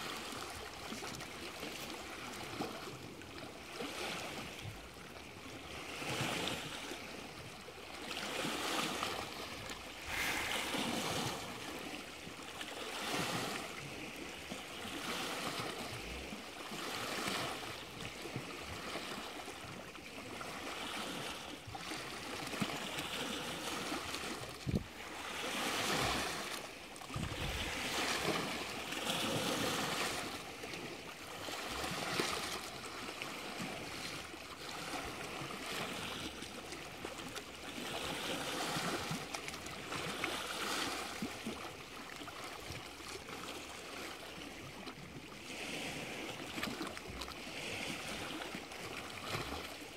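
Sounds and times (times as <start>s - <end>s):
waves washing and lapping: 0.0s - 49.9s.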